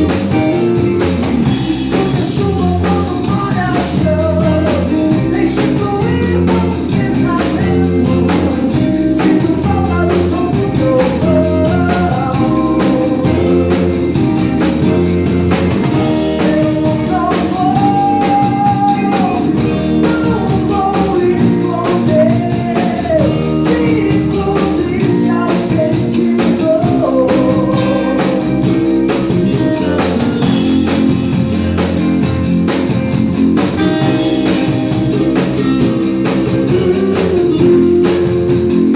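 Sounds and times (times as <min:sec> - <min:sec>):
rock band playing live: 0:00.0 - 0:38.9
wavering melodic lead line: 0:00.0 - 0:38.9.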